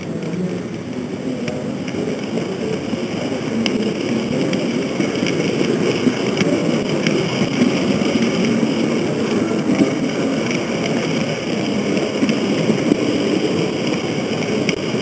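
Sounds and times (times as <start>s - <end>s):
model train motor running: 0.0s - 15.0s
wheels clicking over rail joints: 0.0s - 15.0s.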